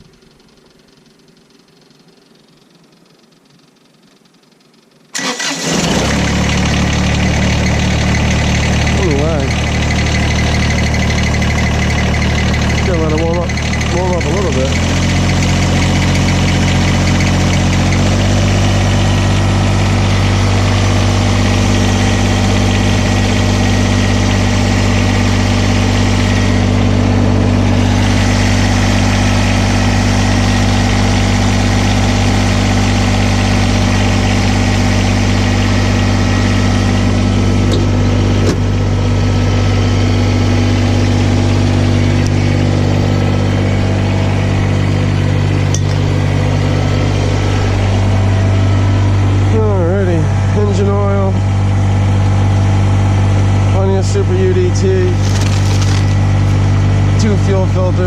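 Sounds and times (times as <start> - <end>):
diesel engine idling: 5.1 - 58.0.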